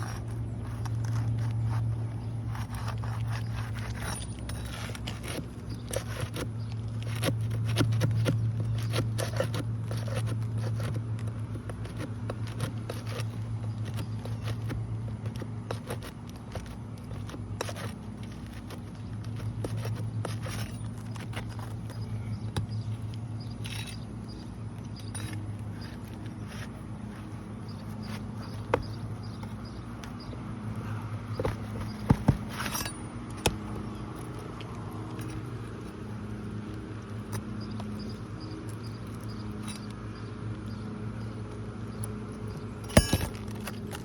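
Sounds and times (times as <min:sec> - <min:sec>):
hand tool scraping shingles: 0:00.0 - 0:38.2, 0:42.7 - 0:44.0
steady low hum: 0:00.0 - 0:44.0.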